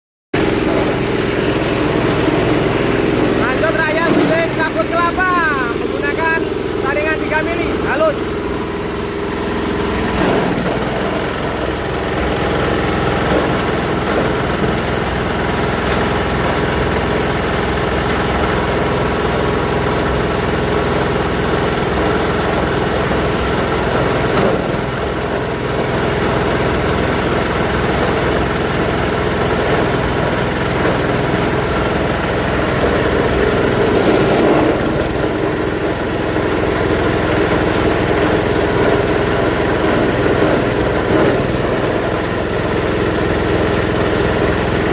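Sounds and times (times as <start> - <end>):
grinding machine motor drone: 0.4 - 44.9.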